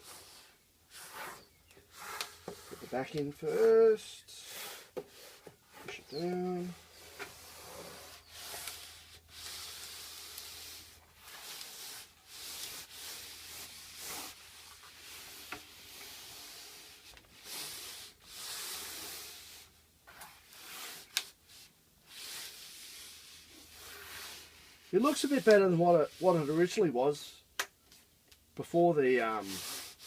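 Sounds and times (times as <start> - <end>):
foam rubbing and scraping: 0.0 - 26.8, 28.8 - 30.0.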